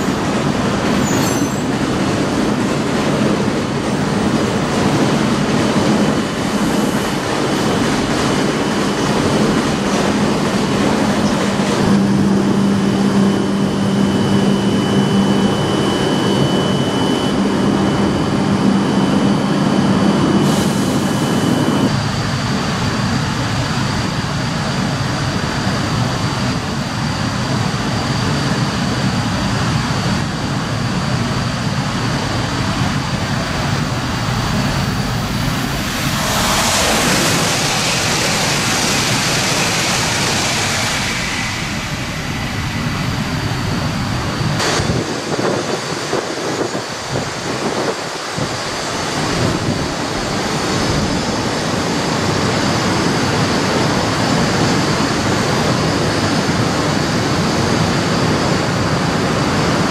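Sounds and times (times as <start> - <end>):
train equipment high whine: 0.0 - 59.9
train equipment low hum: 0.0 - 59.9.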